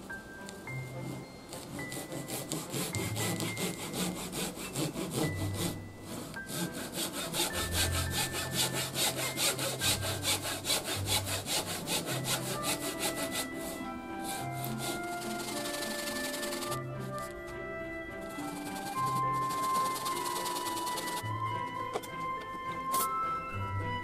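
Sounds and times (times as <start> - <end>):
hand saw cutting wood: 0.8 - 17.5, 18.2 - 21.2.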